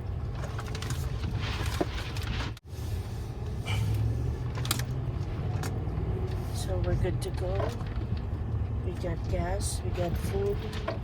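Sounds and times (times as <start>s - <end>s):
vehicle rumble inside cab: 0.0s - 11.0s.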